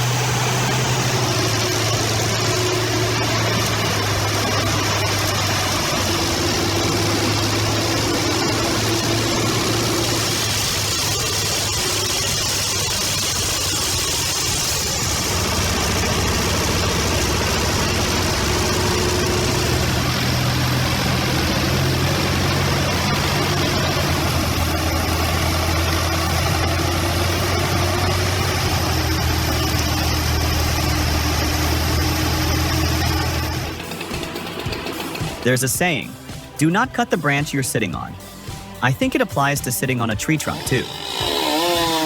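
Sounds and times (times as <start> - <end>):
broad hiss of working noise: 0.0 - 35.4
heavy machine engine humming: 0.0 - 42.0.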